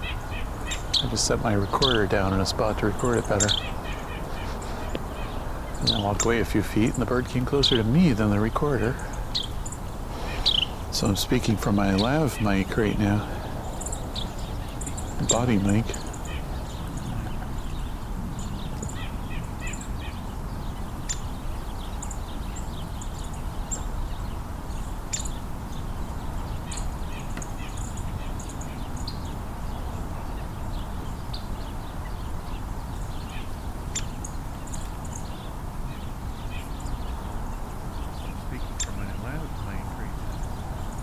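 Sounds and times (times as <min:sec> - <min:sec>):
songbirds calling: 0:00.0 - 0:41.0.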